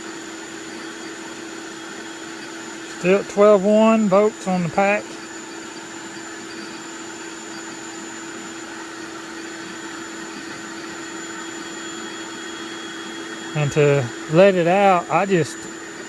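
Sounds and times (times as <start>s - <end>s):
electric air pump running: 0.0s - 16.0s.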